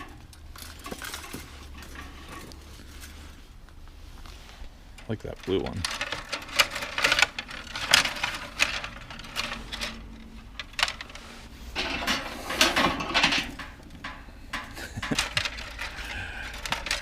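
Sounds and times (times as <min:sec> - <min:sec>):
coat hangers clattering: 0:00.0 - 0:03.4, 0:04.3 - 0:17.0.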